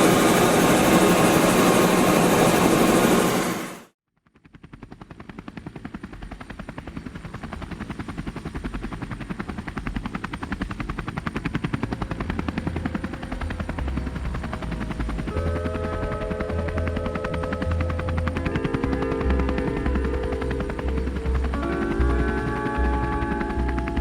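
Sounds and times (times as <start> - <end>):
helicopter rotor beating: 0.0 - 24.0.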